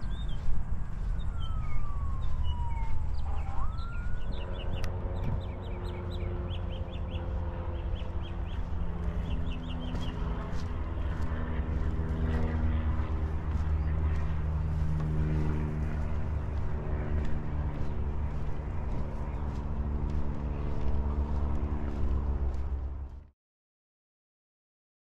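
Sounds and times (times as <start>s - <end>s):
siren wailing: 0.0s - 22.0s
small birds chirping: 0.0s - 22.6s
low rumble of road traffic: 0.0s - 23.3s.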